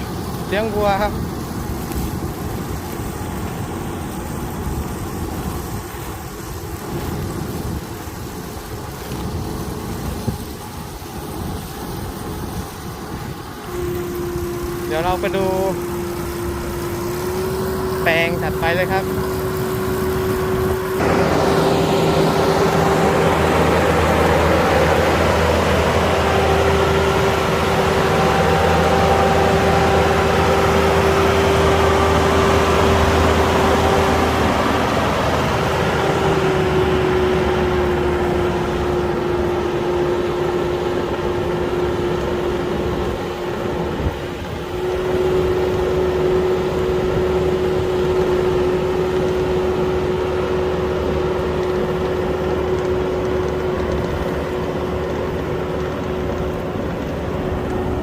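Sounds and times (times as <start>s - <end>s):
combine harvester engine drone: 0.0s - 58.0s
constant whine: 0.0s - 58.0s.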